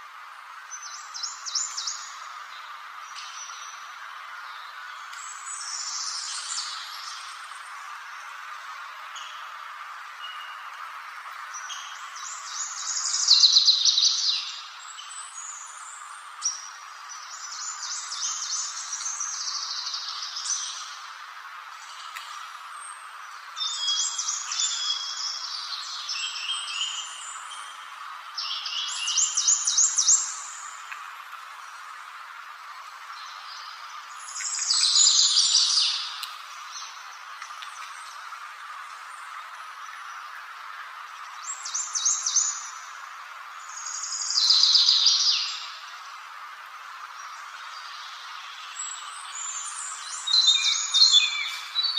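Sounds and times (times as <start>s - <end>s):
songbird singing: 0.0s - 51.9s
steady background hiss: 0.0s - 51.9s.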